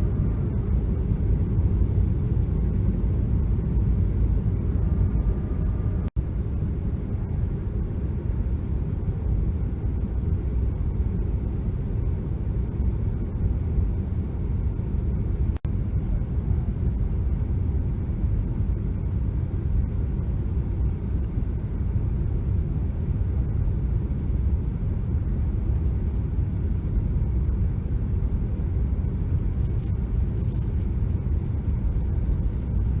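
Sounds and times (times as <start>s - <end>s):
aircraft cabin engine rumble: 0.0s - 33.0s.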